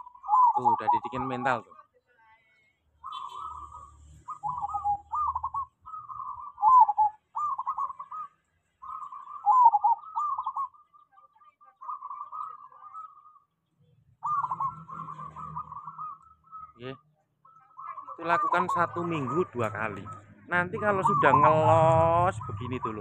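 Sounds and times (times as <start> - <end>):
dove cooing: 0.0 - 1.8, 3.0 - 13.4, 14.2 - 23.0.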